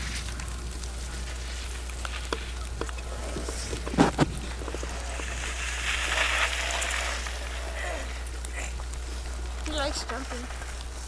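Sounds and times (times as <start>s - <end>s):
faint hiss: 0.0s - 11.0s
steady low hum: 0.0s - 11.0s.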